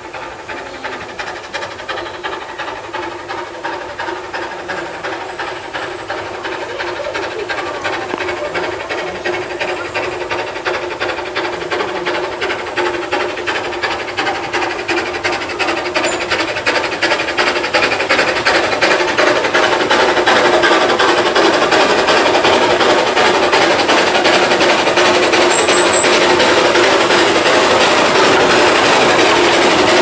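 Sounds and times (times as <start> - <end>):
steam locomotive exhaust chuffs: 0.0 - 30.0.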